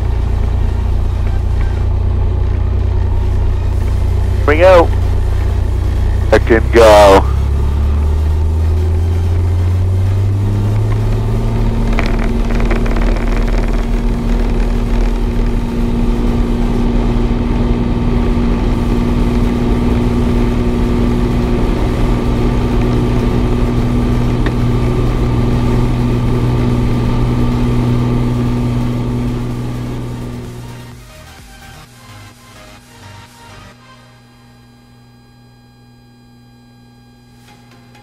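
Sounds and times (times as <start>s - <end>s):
propeller plane engine at full power: 0.0s - 36.7s.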